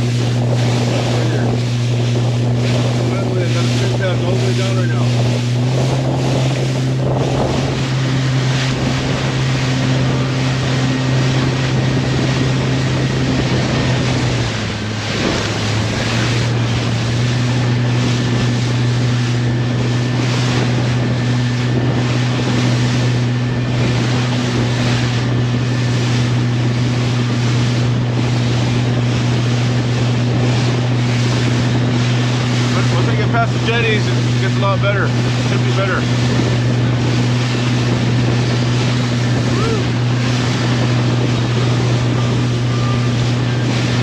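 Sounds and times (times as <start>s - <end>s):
boat engine running: 0.0s - 44.0s
water noise: 0.0s - 44.0s
wind: 0.0s - 44.0s.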